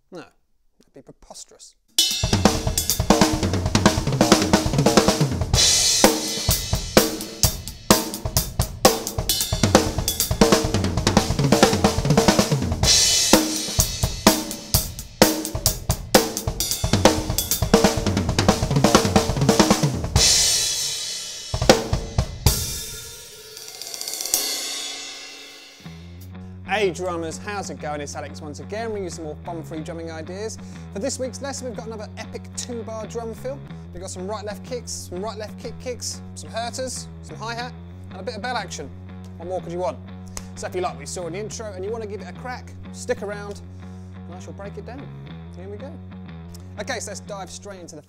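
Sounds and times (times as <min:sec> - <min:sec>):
drum kit playing: 0:02.0 - 0:45.0, 0:45.6 - 0:47.8.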